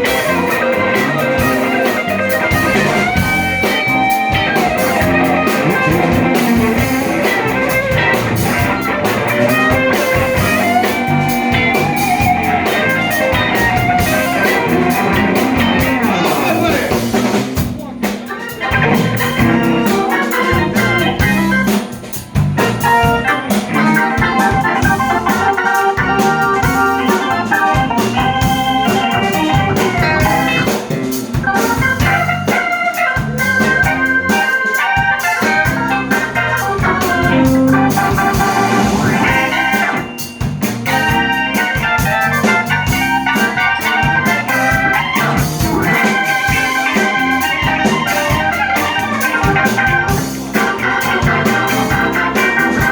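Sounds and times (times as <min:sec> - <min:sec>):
live band with keyboard lead: 0:00.0 - 0:52.9.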